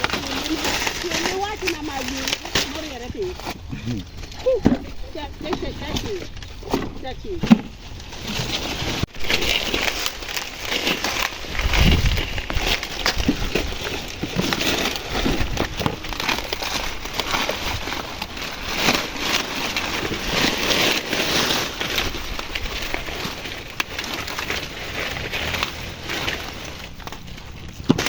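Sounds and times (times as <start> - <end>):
dry maize leaves rustling: 0.0 - 28.0.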